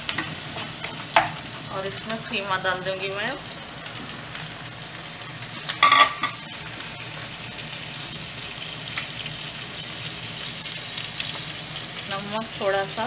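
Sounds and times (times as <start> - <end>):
mince sizzling in hot oil: 0.0 - 13.0.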